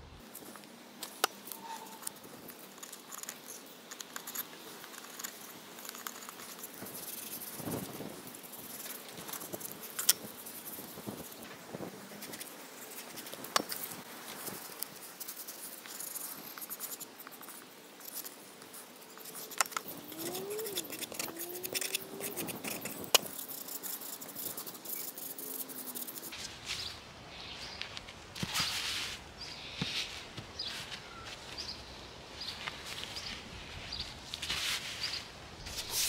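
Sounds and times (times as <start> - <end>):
gloved hands rubbing and handling: 0.2 - 36.0.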